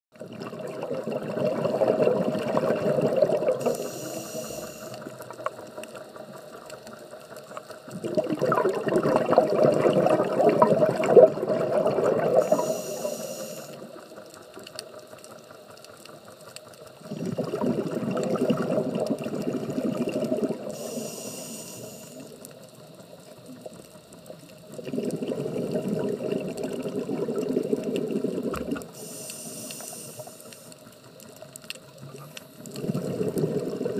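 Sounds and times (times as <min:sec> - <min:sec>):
exhaled bubbles: 0:00.2 - 0:14.3, 0:16.9 - 0:33.9
regulator hiss: 0:02.9 - 0:08.0, 0:09.9 - 0:33.9.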